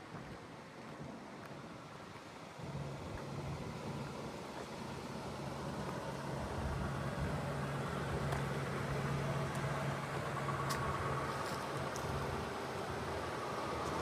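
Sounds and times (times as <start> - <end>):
car engine running: 2.7 - 14.0.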